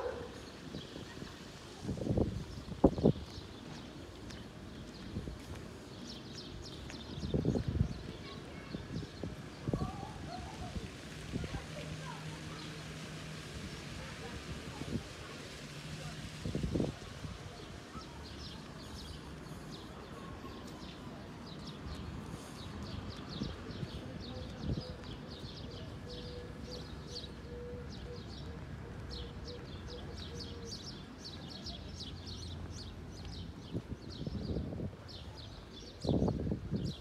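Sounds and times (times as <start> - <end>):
town background hum: 0.0 - 37.0.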